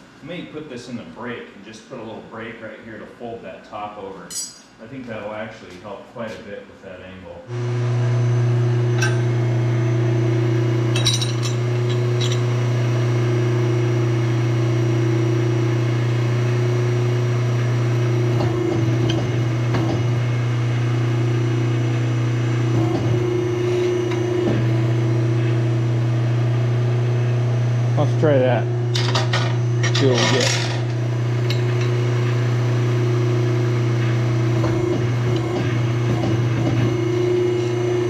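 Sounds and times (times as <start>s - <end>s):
machine humming: 7.4s - 38.0s.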